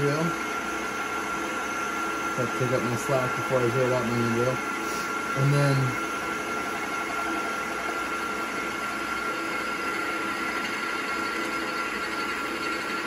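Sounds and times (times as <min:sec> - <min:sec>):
milling machine motor hum: 0:00.0 - 0:13.0
thin whine: 0:00.0 - 0:13.0.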